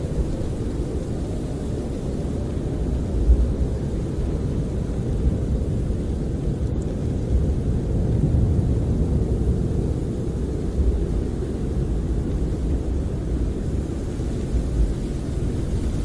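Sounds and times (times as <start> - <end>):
snowstorm wind rumbling: 0.0 - 16.0.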